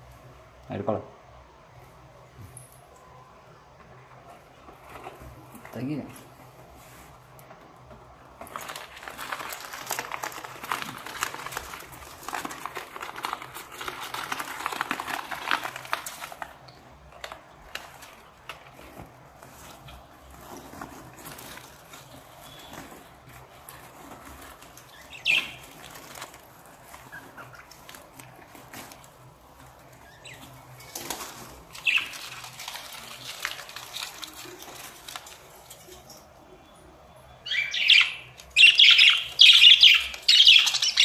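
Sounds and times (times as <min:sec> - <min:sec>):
birds fluttering and scrabbling: 0:04.3 - 0:36.4, 0:37.3 - 0:41.0.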